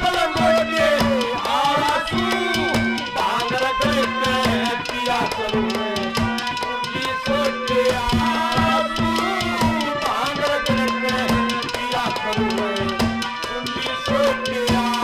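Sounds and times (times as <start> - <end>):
hand drums: 0.0 - 15.0
harmonium drone and melody: 0.0 - 15.0.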